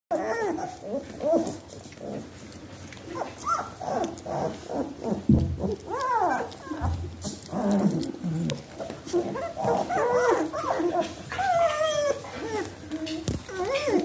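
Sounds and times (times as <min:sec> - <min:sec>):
puppies whining and squealing: 0:00.1 - 0:14.0.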